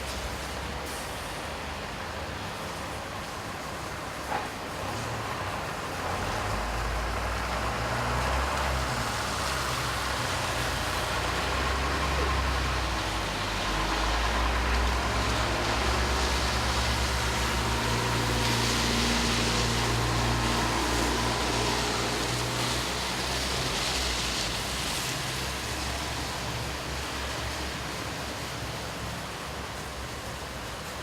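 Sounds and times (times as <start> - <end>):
rain hissing: 0.0 - 31.0
vehicle engines humming: 0.0 - 31.0.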